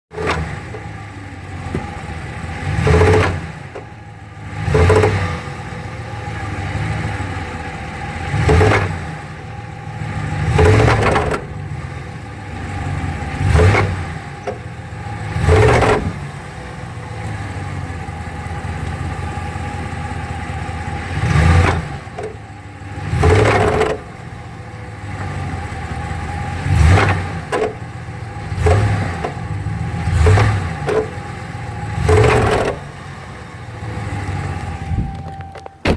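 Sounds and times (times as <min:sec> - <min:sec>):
truck engine droning: 0:00.0 - 0:35.9.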